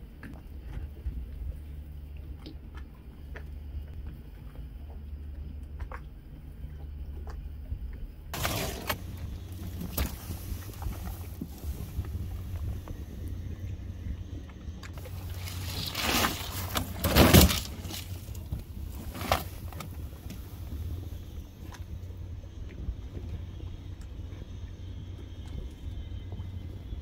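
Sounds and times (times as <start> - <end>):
outboard motor droning: 0.0 - 27.0.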